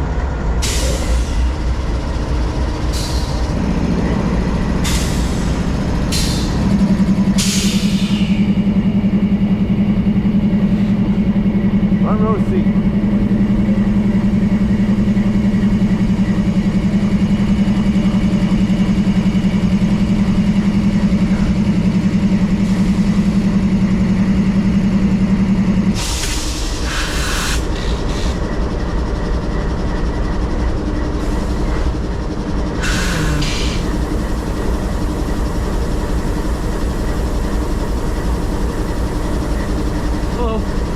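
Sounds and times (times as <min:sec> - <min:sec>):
locomotive engine drone: 0:00.0 - 0:40.9.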